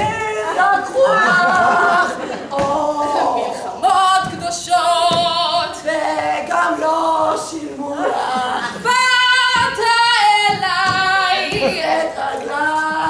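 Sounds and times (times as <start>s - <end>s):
woman singing with vibrato: 0.0s - 13.0s.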